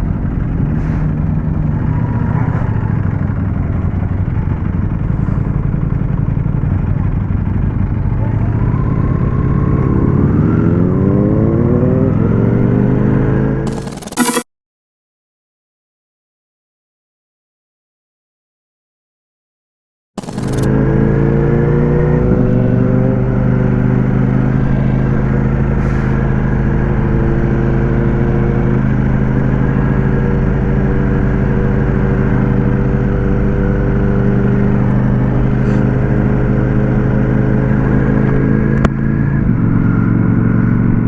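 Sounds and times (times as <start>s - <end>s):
motorcycle engine running: 0.0s - 12.4s, 20.2s - 41.0s.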